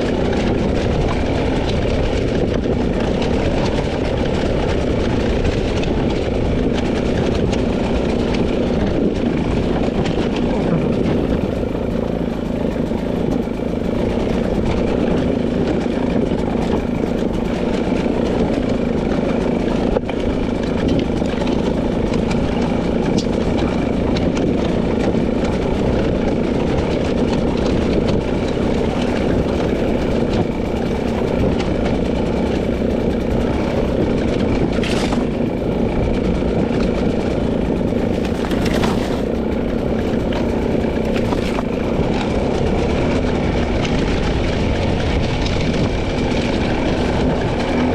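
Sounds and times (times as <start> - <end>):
two-stroke dirt bike engine: 0.0 - 47.9.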